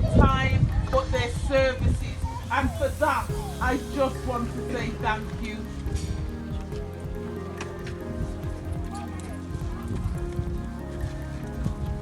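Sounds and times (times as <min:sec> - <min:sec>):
music with sustained tones: 0:00.0 - 0:12.0.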